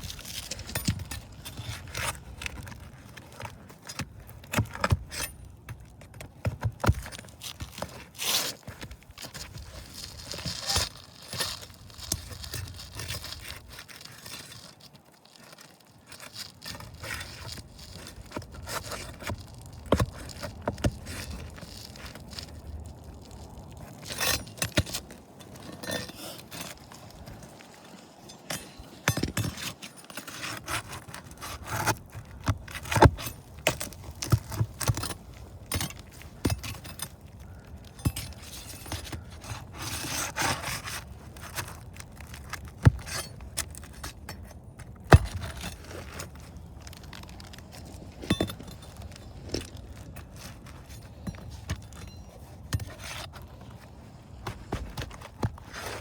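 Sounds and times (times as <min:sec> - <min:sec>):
shingles scraping and crackling: 0:00.0 - 0:56.0.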